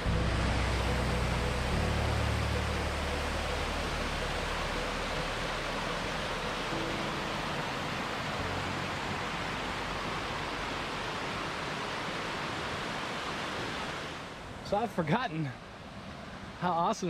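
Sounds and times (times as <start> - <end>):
stream and waterfall rushing: 0.0 - 17.0.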